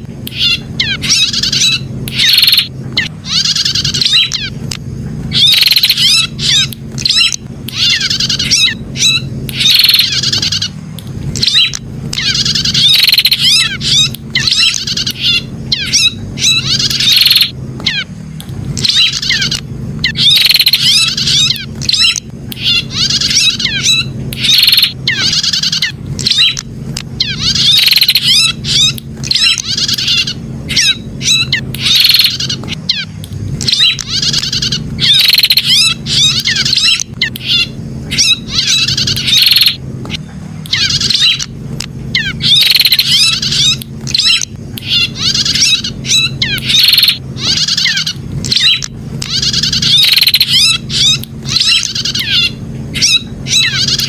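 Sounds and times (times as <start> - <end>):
low steady hum: 0.0 - 54.0
bird singing shrill trilled phrases: 0.3 - 4.6, 5.3 - 10.8, 11.4 - 18.1, 18.8 - 26.6, 27.2 - 39.8, 40.7 - 41.5, 42.1 - 54.0.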